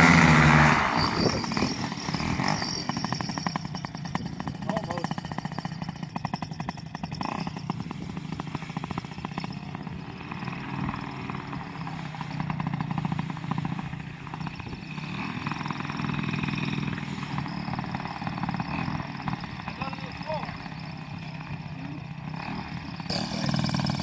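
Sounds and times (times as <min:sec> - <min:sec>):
two-stroke engine running: 0:00.0 - 0:24.0.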